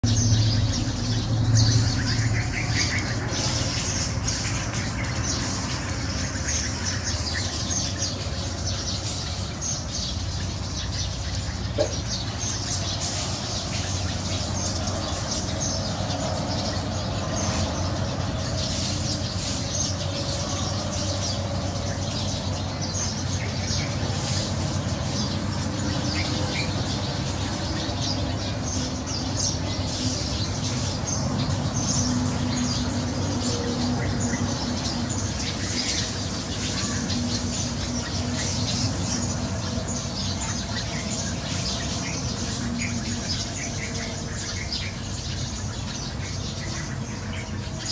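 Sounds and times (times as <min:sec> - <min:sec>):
sparrows chirping in chorus: 0:00.0 - 0:47.9.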